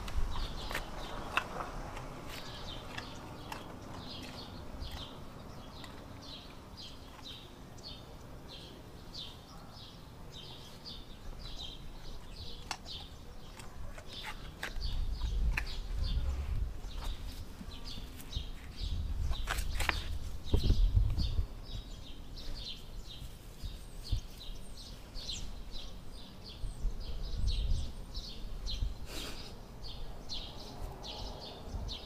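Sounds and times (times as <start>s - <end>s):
small bird chirping: 0.2s - 32.0s.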